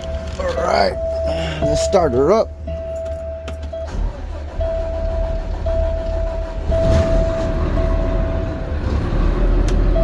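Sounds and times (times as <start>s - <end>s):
warning tone: 0.0s - 8.8s
truck engine rumbling: 0.0s - 10.0s.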